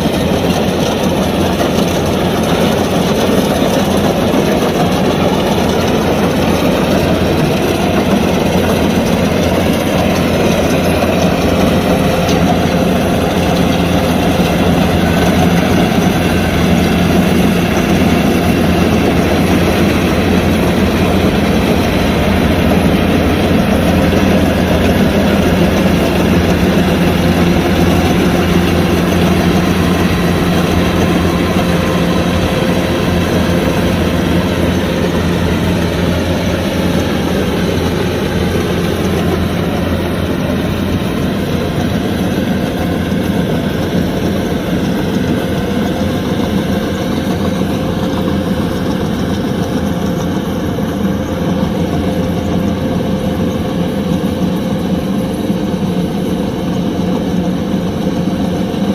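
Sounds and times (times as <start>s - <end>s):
combine harvester droning: 0.0s - 58.9s.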